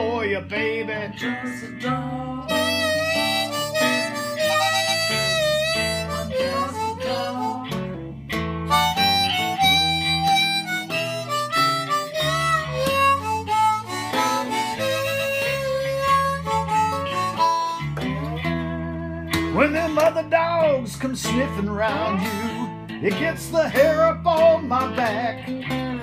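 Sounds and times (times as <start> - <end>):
acoustic guitar accompaniment: 0.0 - 26.0
harmonica solo with bending notes: 1.6 - 24.9.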